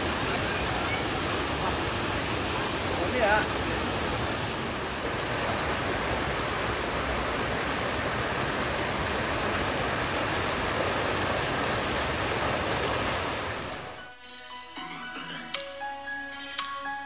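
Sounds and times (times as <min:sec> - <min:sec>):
stream rushing over stones: 0:00.0 - 0:14.0.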